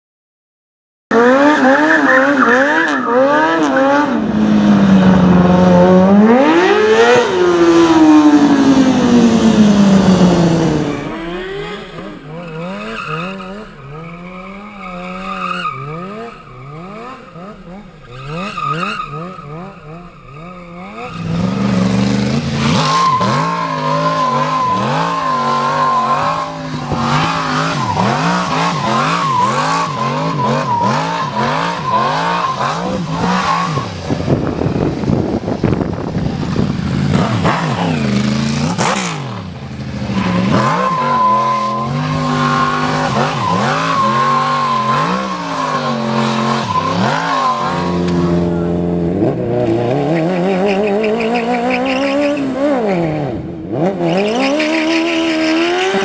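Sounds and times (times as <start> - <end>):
high tyre squeal: 1.1 - 4.2, 6.3 - 48.8, 50.0 - 53.1, 54.0 - 56.0
motorcycle engine revving: 1.1 - 56.0
tyre skid: 6.2 - 53.1.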